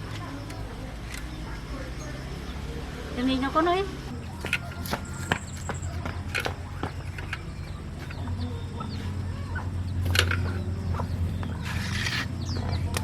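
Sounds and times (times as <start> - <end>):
chickens clucking: 0.0 - 13.0
steady low hum: 0.0 - 13.0.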